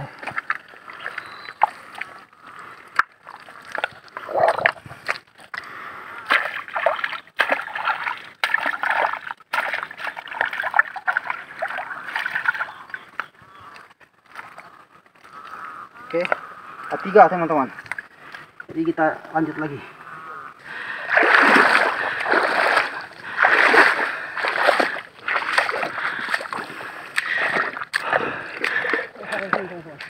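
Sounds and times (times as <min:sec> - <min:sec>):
mud and water splashing: 0:00.0 - 0:30.0.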